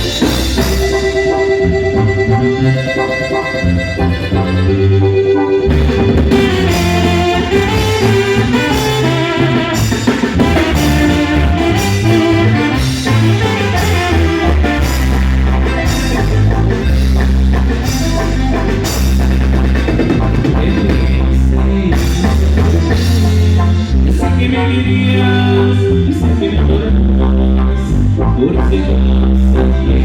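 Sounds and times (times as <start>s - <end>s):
band music with drums and bass: 0.0s - 30.0s.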